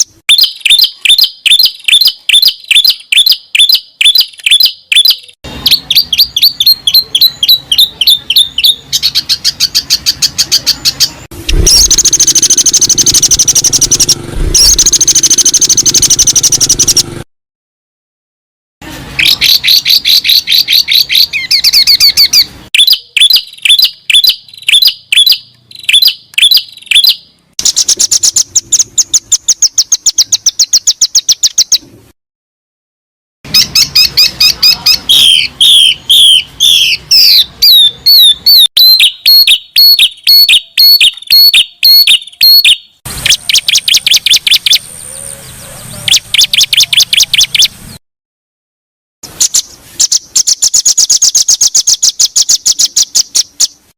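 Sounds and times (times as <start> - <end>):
songbird chirps and trills: 0.0 - 17.1, 19.2 - 31.9, 33.5 - 48.0, 49.3 - 53.9.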